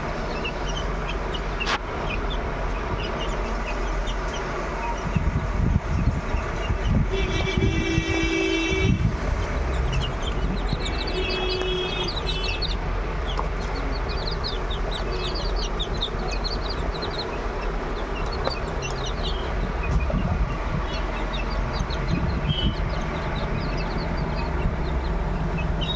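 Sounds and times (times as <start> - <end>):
chicks peeping: 0.0 - 25.9
low background rumble: 0.0 - 25.9.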